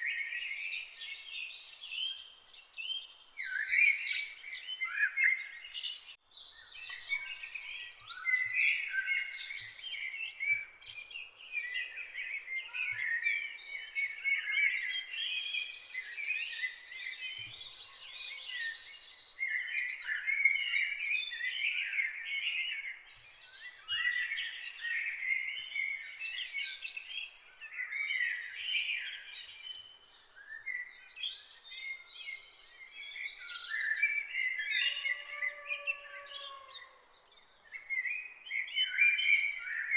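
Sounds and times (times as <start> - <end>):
songbird chorus: 0.0 - 39.9.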